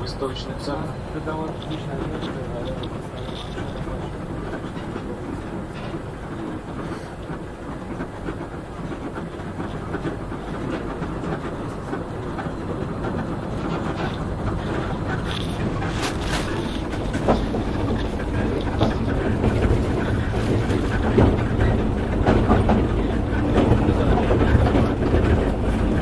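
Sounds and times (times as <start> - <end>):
monorail car running noise: 0.0 - 26.0.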